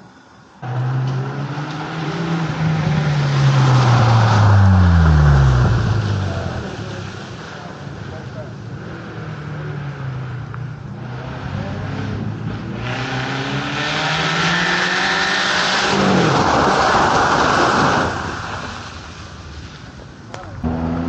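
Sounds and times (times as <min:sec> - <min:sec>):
rally car engine at full speed: 0:00.5 - 0:19.3, 0:20.2 - 0:21.0.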